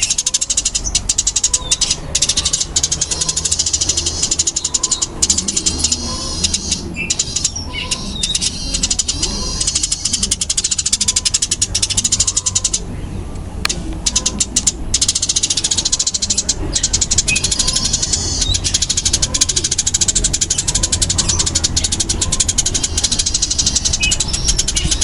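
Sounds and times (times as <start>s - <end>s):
sparrows chattering: 0.0s - 25.0s.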